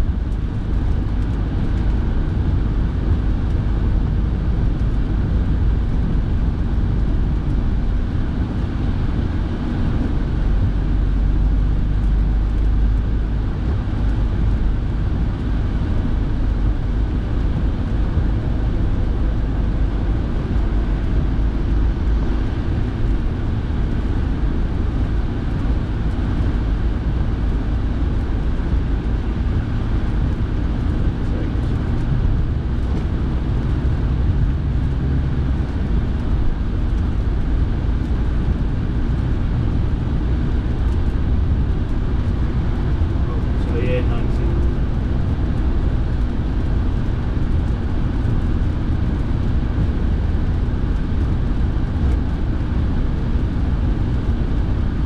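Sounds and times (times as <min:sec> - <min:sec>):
car engine and tyre rumble: 0:00.0 - 0:55.0
heater fan blowing: 0:00.0 - 0:55.0.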